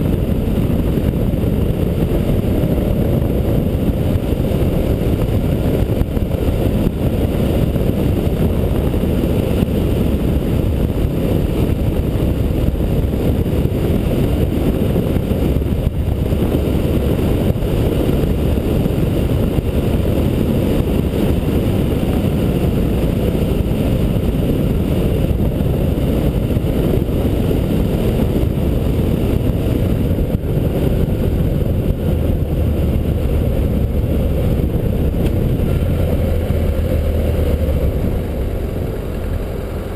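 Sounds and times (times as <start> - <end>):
motorcycle engine rumble: 0.0 - 39.9
wind rush: 0.0 - 39.9.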